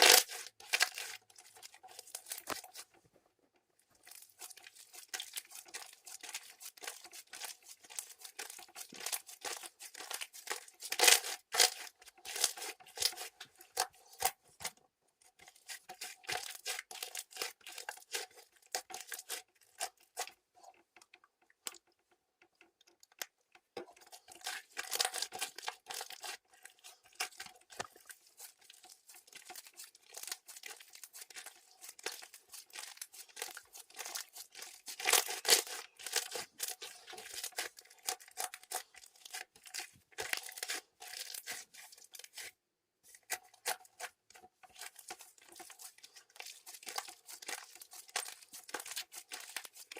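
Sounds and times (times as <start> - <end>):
slime squished and stretched: 0.0 - 2.9, 4.0 - 14.8, 15.4 - 20.4, 24.0 - 42.5, 43.1 - 49.9.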